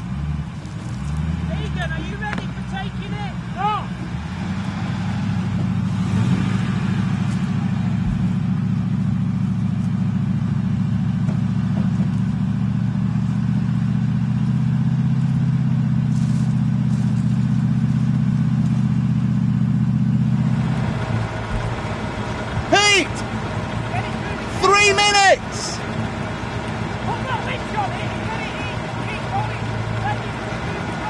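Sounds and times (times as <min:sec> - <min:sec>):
engine running at fast idle: 0:05.1 - 0:31.0.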